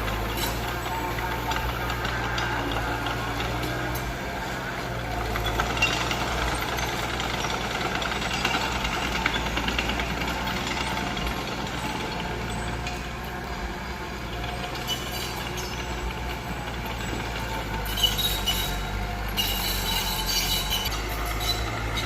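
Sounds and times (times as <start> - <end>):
bulldozer diesel engine: 0.0 - 22.0.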